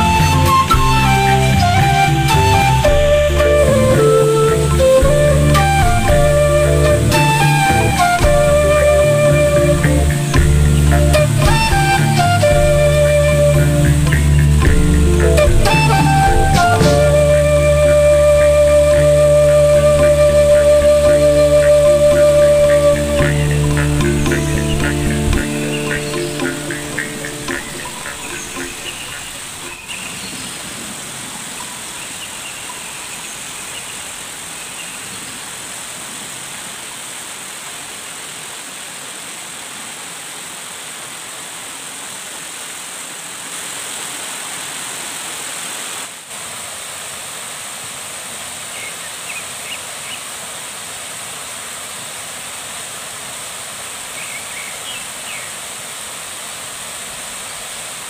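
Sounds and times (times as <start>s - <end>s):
rushing stream water: 0.0s - 58.0s.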